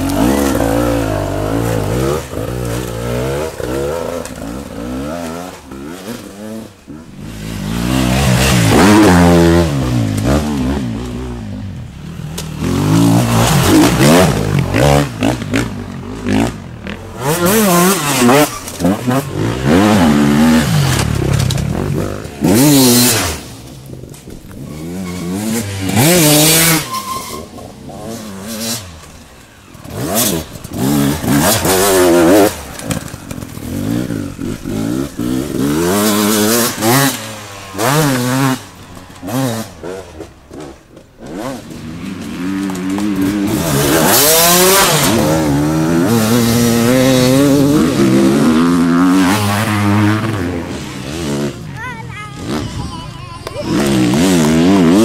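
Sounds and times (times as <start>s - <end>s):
dirt bikes racing past: 0.0s - 55.0s.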